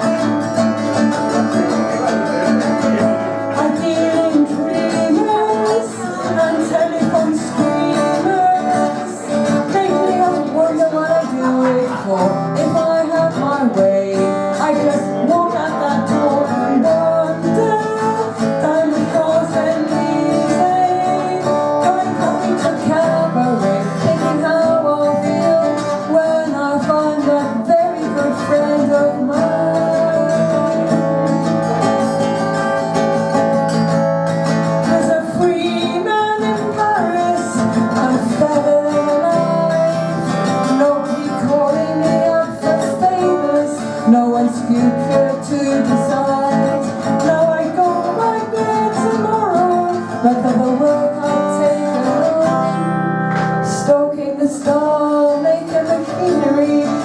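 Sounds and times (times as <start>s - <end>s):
acoustic guitar music: 0.0s - 57.0s.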